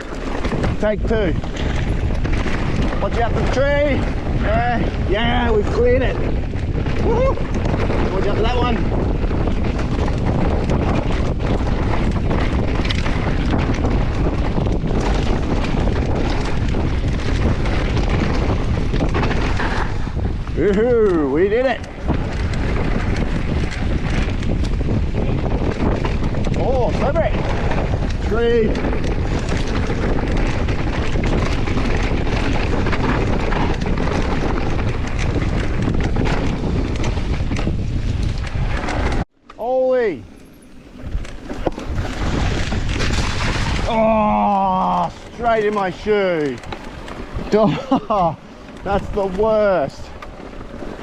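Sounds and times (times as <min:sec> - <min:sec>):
bike knocks and rattles: 0:00.0 - 0:51.0
low rumble from trail: 0:00.0 - 0:51.0
wind on microphone: 0:00.0 - 0:51.0.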